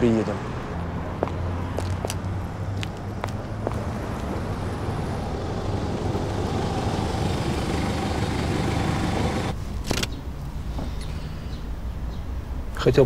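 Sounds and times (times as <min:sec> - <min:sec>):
car engine and tyre noise: 0:00.0 - 0:12.6.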